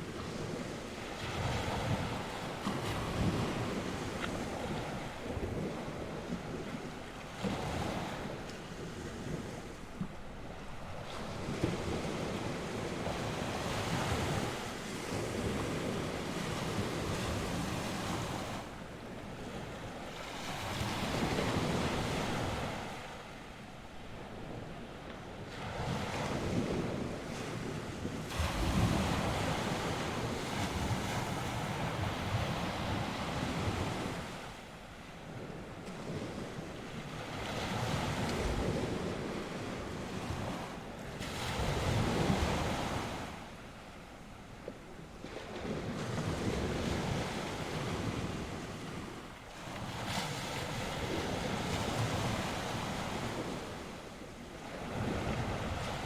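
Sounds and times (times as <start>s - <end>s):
wind buffeting microphone: 0.0s - 43.8s, 44.5s - 56.0s
waves breaking on shore: 0.0s - 56.0s.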